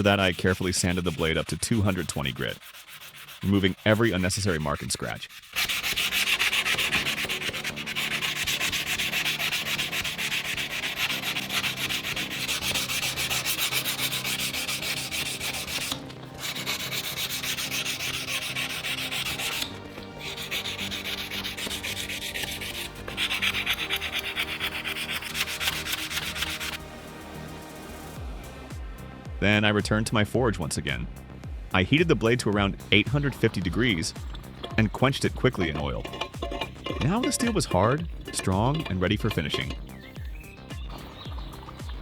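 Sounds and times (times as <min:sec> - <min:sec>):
sandpaper scraping steel blade: 0:00.0 - 0:26.8, 0:32.9 - 0:42.0.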